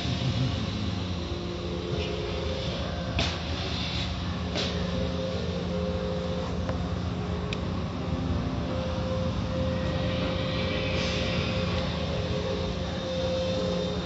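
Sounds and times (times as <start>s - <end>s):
car wash machinery rumble: 0.0s - 14.0s.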